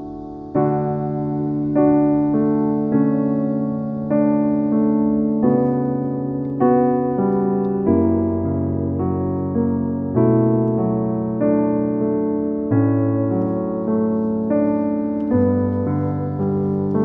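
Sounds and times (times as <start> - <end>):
keyboard playing sustained chords: 0.0 - 17.0.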